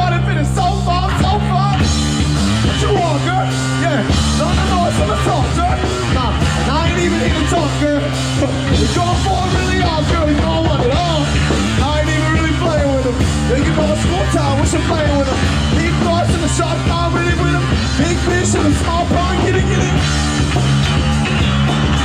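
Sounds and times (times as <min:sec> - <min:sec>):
bass notes: 0:00.0 - 0:22.0
person singing: 0:02.6 - 0:22.0.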